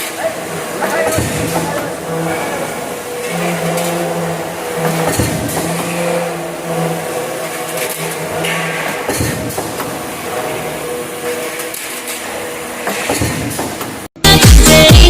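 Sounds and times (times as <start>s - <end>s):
heavy impacts: 0.0s - 14.1s
stamping press running: 0.0s - 14.1s.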